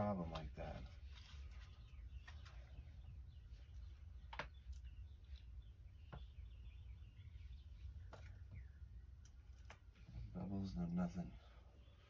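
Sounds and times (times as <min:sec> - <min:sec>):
faint bird chirps: 0:00.8 - 0:12.0.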